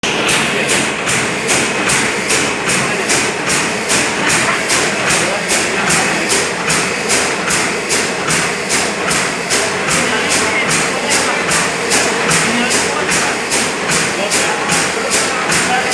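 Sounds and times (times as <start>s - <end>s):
filling machine clattering: 0.0s - 15.9s.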